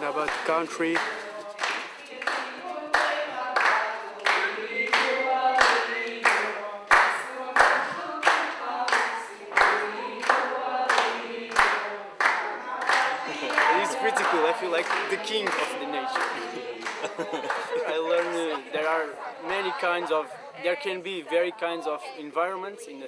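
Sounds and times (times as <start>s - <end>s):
group of voices singing: 0.0s - 23.0s
hand claps: 0.2s - 19.0s.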